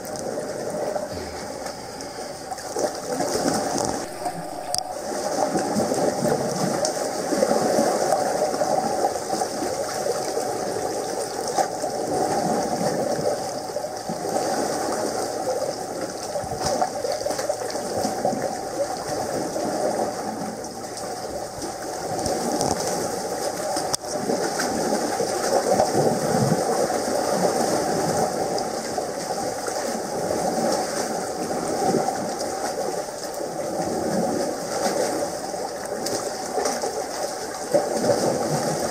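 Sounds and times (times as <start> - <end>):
water rushing and splashing: 0.0 - 38.9.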